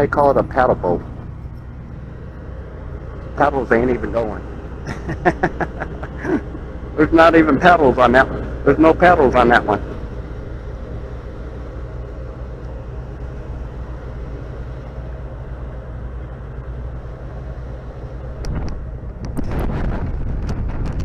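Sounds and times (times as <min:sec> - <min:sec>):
boat engine humming: 0:00.0 - 0:21.0
wind buffeting microphone: 0:01.0 - 0:21.0.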